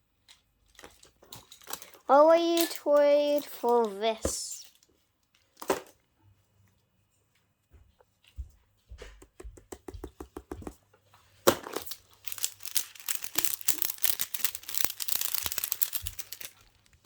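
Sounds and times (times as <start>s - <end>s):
crinkling and rustling: 0.0s - 9.3s, 10.5s - 17.0s.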